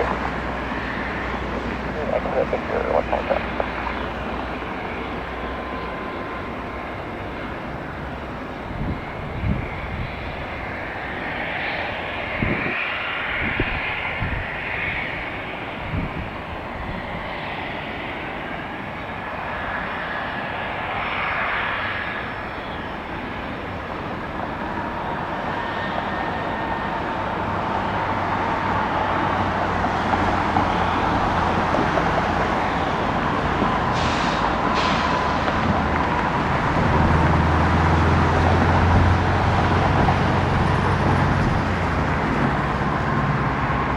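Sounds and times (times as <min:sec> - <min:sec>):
faint engine whine: 0:00.0 - 0:43.9
jet engines rushing: 0:00.0 - 0:43.9.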